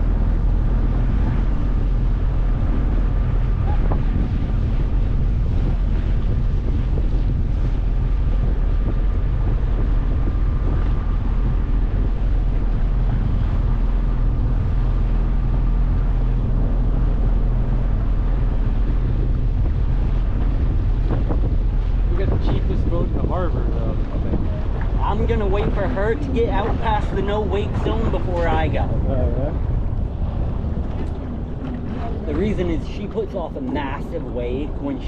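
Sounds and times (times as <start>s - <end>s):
outboard motor running: 0.0s - 33.2s
wind buffeting microphone: 0.0s - 35.0s.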